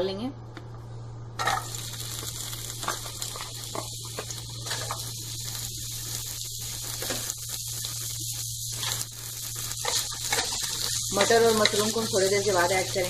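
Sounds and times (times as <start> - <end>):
potatoes sizzling in hot oil: 1.4 - 13.0.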